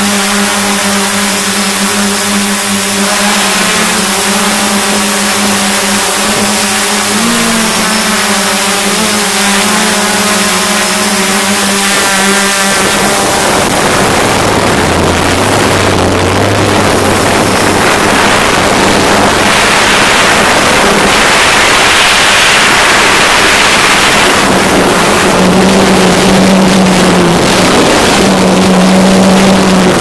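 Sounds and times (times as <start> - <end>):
drone motors humming: 0.0 - 30.0.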